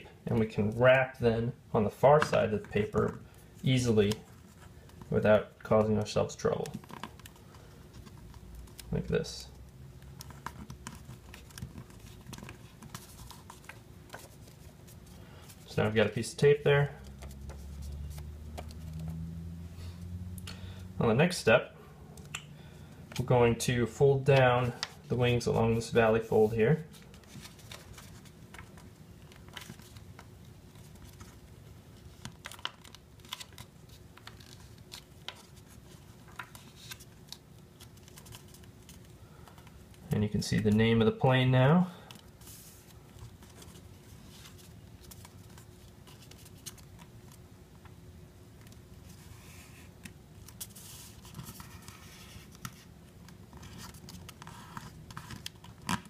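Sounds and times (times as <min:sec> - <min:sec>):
steady low hum: 0:00.0 - 0:56.0
paper folding and rustling: 0:01.8 - 0:19.2, 0:23.9 - 0:40.8, 0:42.0 - 0:48.0, 0:48.6 - 0:56.0.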